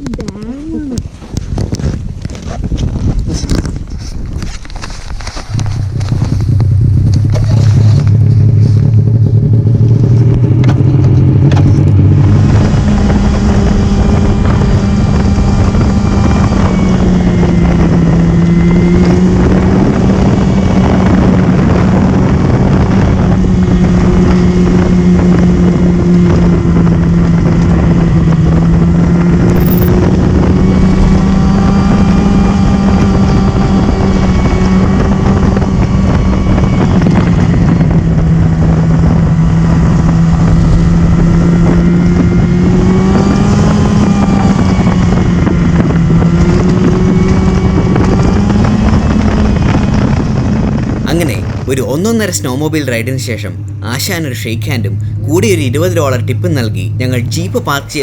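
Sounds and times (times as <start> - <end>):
snowmobile engine: 3.2 - 58.0.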